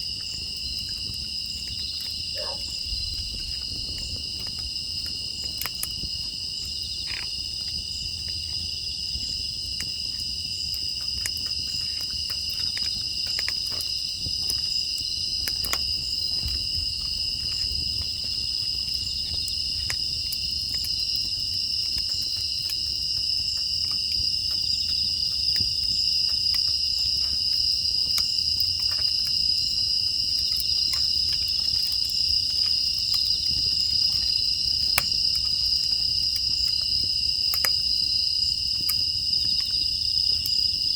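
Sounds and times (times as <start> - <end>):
crickets chirping: 0.0 - 40.9
wood fire crackling: 0.0 - 40.9.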